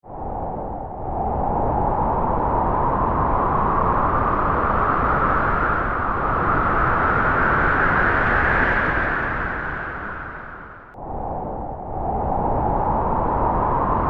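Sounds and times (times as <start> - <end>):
wind rushing: 0.1 - 14.0.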